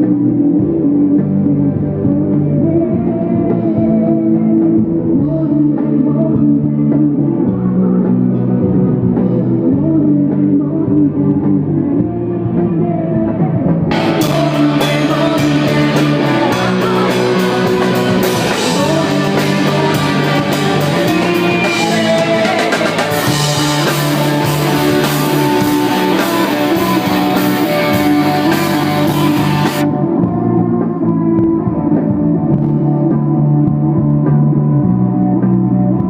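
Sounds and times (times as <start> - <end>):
drums and cymbals: 0.0 - 36.0
guitars and bass ringing: 0.0 - 36.0.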